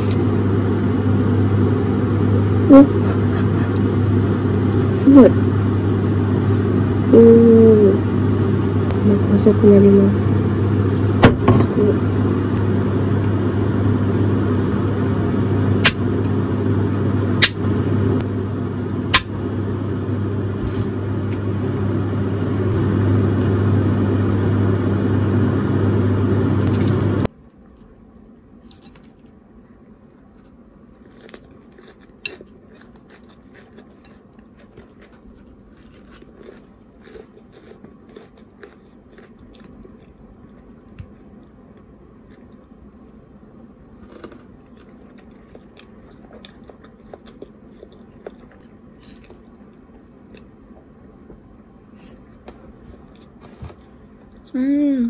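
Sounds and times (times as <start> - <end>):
motor hum: 0.0 - 55.0.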